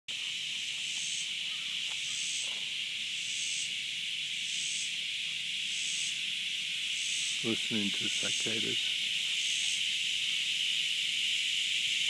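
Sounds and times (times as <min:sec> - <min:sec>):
cicadas buzzing in chorus: 0:00.1 - 0:12.0.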